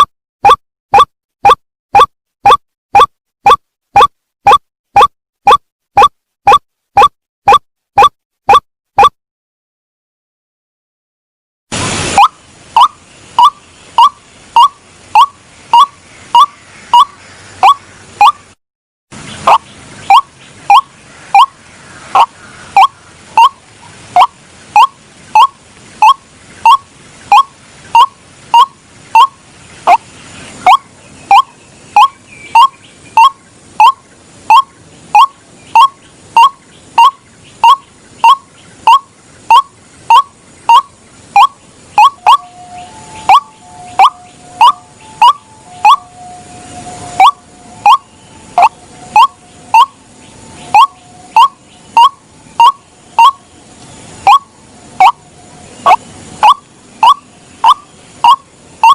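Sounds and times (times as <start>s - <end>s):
waterhen calling: 0.0s - 9.1s, 11.8s - 18.6s, 19.2s - 58.9s.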